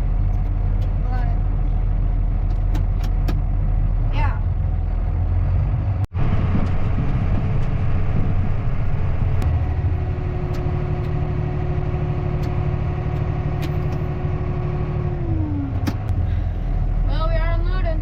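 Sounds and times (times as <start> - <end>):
engine running heard from cab: 0.0 - 18.0.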